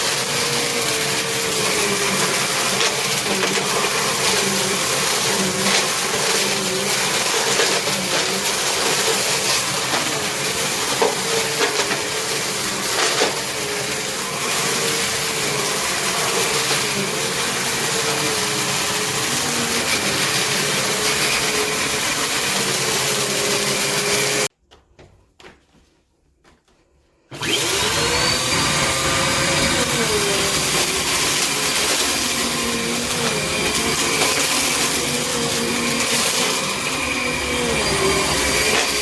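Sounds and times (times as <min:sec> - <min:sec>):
upright vacuum cleaner running: 0:00.0 - 0:24.5, 0:27.3 - 0:39.0.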